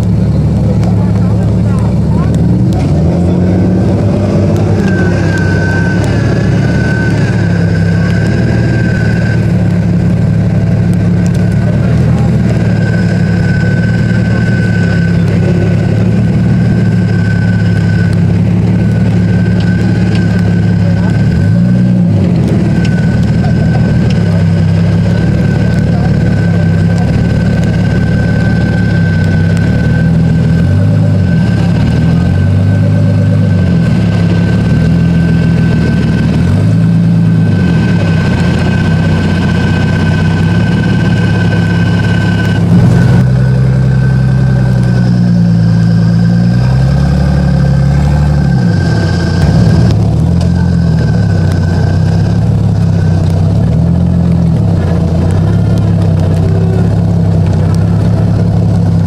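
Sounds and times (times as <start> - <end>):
engine revving under load: 0.0 - 59.0
steady high whine: 0.0 - 59.0.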